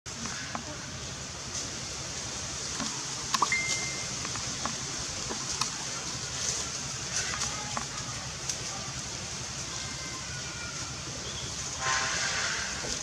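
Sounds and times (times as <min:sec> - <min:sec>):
outdoor background hiss: 0:00.1 - 0:13.0.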